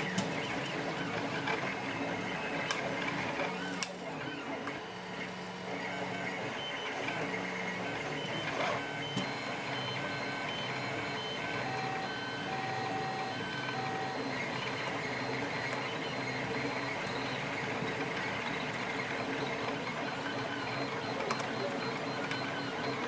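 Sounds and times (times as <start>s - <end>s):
stepper motors whining: 0.0s - 23.0s.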